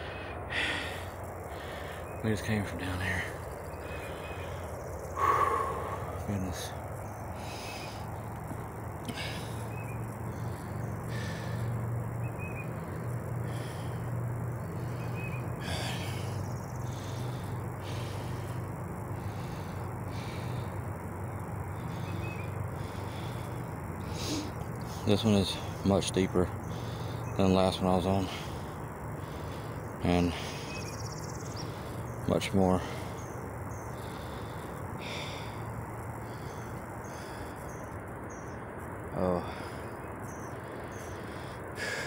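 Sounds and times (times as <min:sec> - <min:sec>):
higher pulsing hiss: 0:00.0 - 0:42.0
wind and handling rumble: 0:00.0 - 0:42.0.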